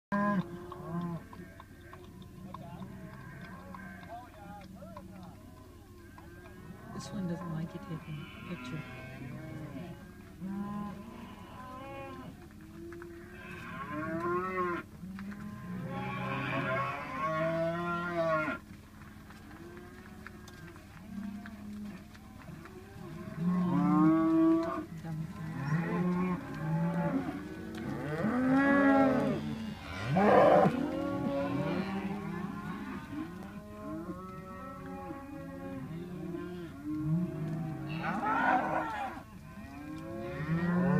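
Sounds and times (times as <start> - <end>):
cattle mooing: 0.1 - 4.1, 6.0 - 12.4, 13.0 - 18.6, 19.8 - 40.9.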